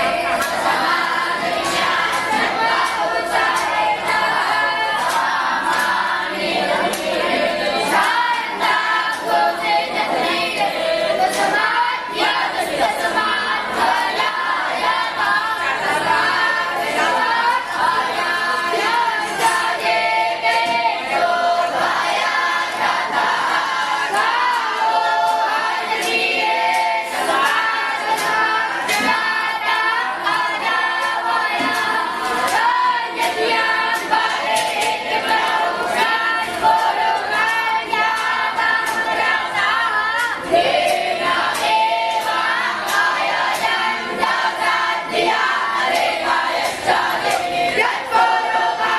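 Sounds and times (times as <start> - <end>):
group of voices chanting: 0.0 - 48.9.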